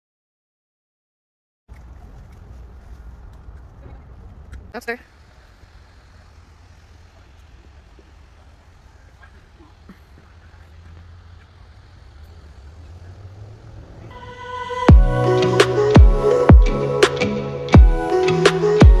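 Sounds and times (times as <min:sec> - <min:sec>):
road traffic rumble: 0:01.7 - 0:19.0.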